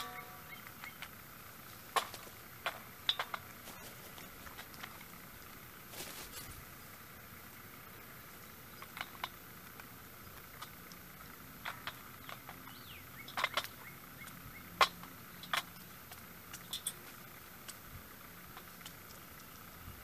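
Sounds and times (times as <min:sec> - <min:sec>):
beaks pecking in a dish: 0:00.0 - 0:20.0
faint steady hiss: 0:00.0 - 0:20.0.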